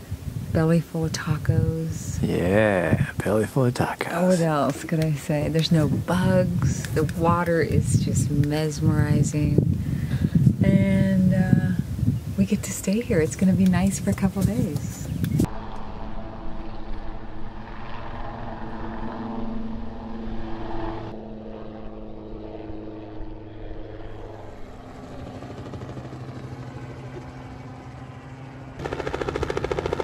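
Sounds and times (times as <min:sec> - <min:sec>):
helicopter rotor beating overhead: 0:00.0 - 0:30.0
helicopter rotor drone: 0:00.0 - 0:30.0.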